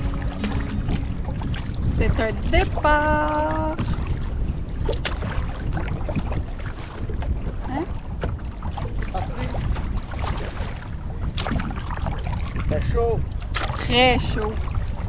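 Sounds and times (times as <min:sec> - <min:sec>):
paddle splashing water: 0:00.0 - 0:15.0
wind rumble on microphone: 0:00.0 - 0:15.0.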